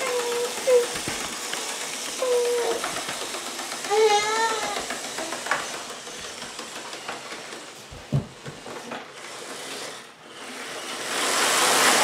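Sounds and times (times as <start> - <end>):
model train running: 0.0 - 8.0, 8.6 - 12.0.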